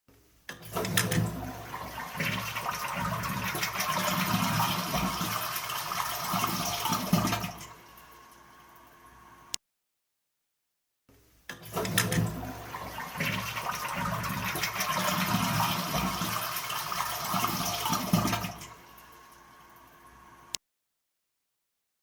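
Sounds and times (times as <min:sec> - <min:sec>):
toilet flushing: 0:00.5 - 0:09.5, 0:11.5 - 0:20.5.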